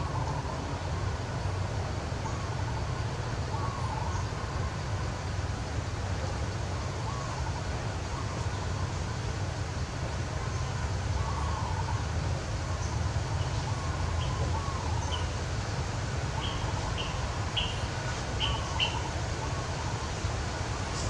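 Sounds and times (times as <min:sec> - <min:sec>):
faint wavering bird calls: 0:00.0 - 0:05.4, 0:06.0 - 0:21.0
low outdoor rumble: 0:00.0 - 0:21.0.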